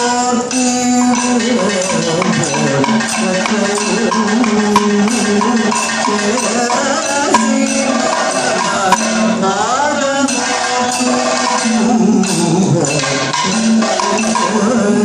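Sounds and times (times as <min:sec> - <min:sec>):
drum and percussion strikes: 0:00.0 - 0:15.0
person singing over a drone: 0:00.0 - 0:15.0.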